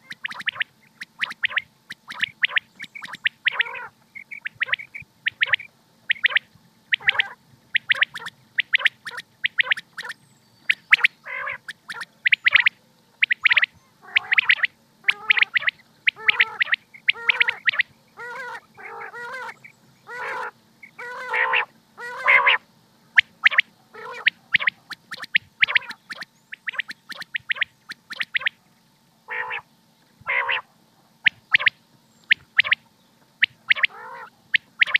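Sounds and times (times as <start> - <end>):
quail calling: 0.0 - 28.6, 29.3 - 34.9.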